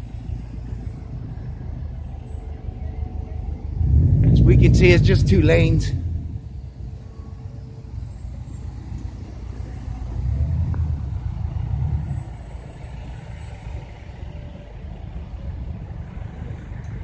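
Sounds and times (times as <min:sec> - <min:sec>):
car engines rumbling in traffic: 0:00.0 - 0:17.0.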